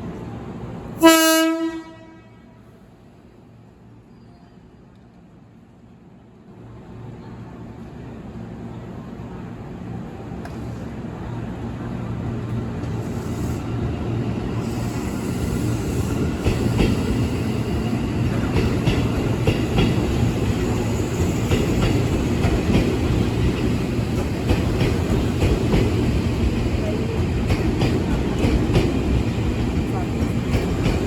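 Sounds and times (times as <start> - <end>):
electric train rumbling: 6.1 - 31.0.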